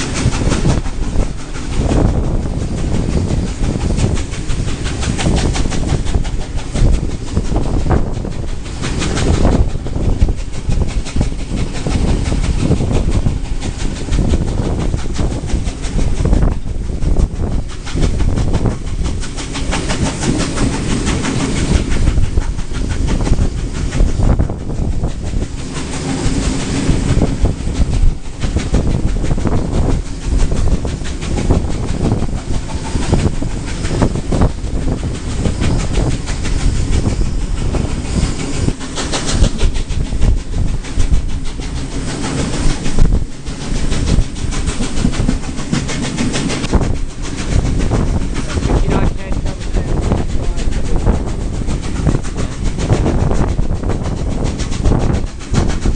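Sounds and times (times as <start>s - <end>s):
train wheels clattering over rails: 0.0s - 55.9s.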